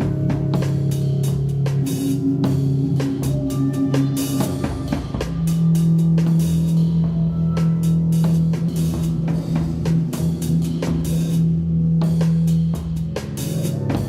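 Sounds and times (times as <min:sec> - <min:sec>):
drum kit beat: 0:00.0 - 0:14.0
sustained distorted low notes: 0:00.0 - 0:14.0.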